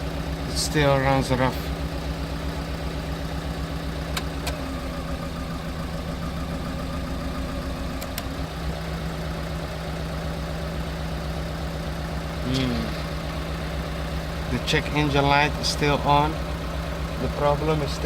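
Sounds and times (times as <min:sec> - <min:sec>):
engine idling roughly: 0:00.0 - 0:18.0.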